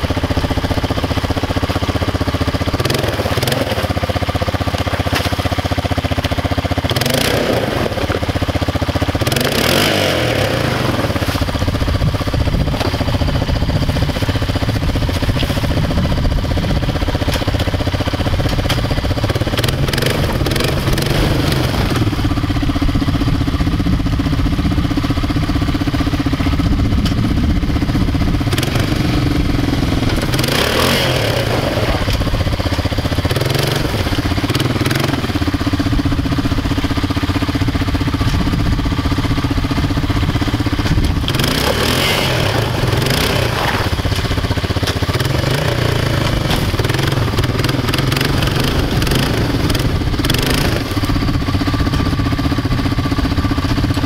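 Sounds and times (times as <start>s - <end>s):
quad engine revving: 0.0s - 54.0s
wheels churning water and slush: 0.0s - 54.0s.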